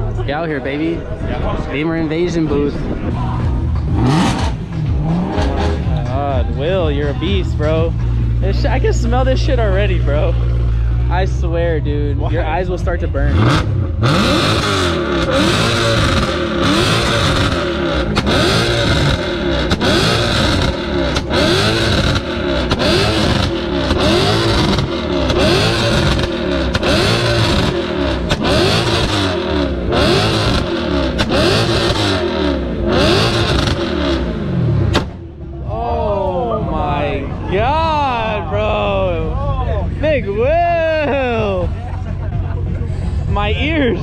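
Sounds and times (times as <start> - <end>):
car engine revving: 1.0 - 44.0.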